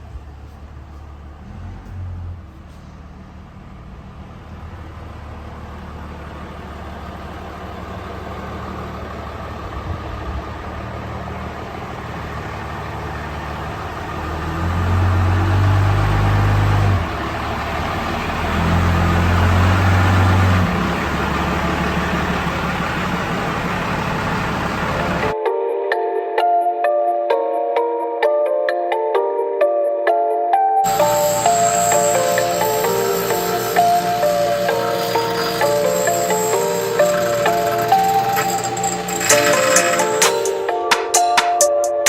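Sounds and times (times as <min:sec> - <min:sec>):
diesel truck engine droning: 0:00.0 - 0:25.4, 0:30.8 - 0:41.1.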